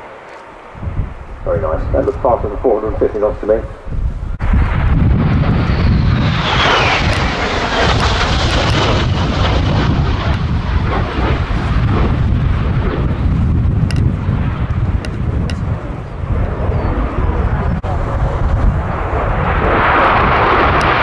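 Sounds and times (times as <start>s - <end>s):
jet engine roar and whine: 0.0s - 21.0s.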